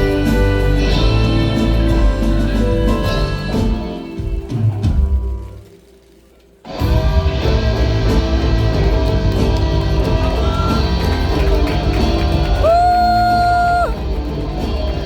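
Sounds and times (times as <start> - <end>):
loud guitar-led band music: 0.0 - 5.9, 6.7 - 15.0.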